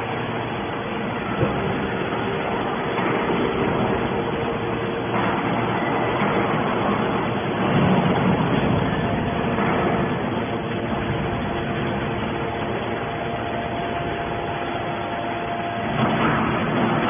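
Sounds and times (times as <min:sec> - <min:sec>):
faint constant tone: 0:00.0 - 0:17.0
hydraulic can baler running: 0:00.0 - 0:17.0.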